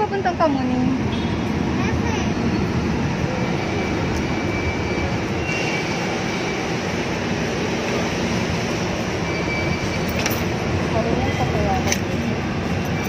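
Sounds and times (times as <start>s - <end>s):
station rumbling din: 0.0s - 13.0s.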